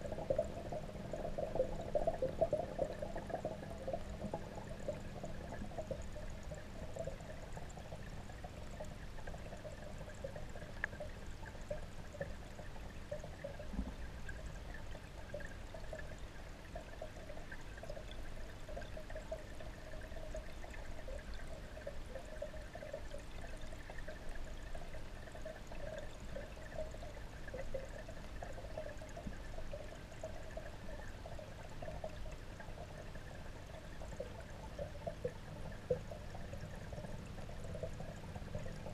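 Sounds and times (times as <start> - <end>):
underwater bubbling water: 0.0 - 38.9.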